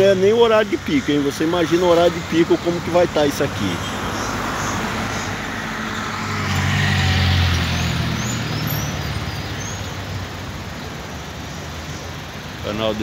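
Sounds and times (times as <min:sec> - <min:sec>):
cars passing at low speed: 0:00.0 - 0:13.0
heavy vehicle engine hum: 0:00.0 - 0:13.0.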